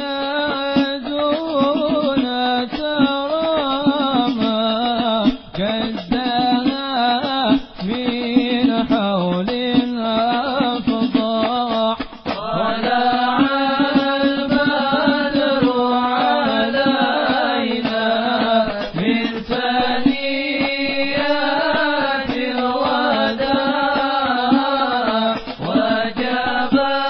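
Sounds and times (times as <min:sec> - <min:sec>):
person chanting devotional song: 0:00.0 - 0:27.0
percussive hits: 0:00.1 - 0:27.0.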